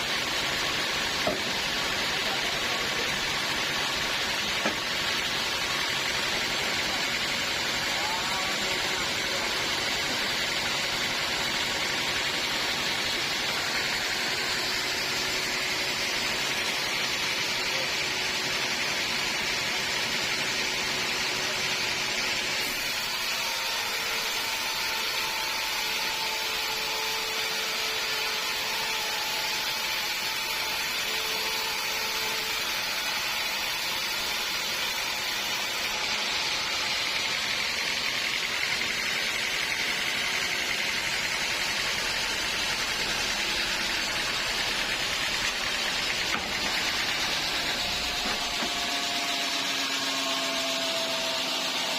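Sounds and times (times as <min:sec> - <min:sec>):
sawmill machinery running: 0:00.0 - 0:51.9.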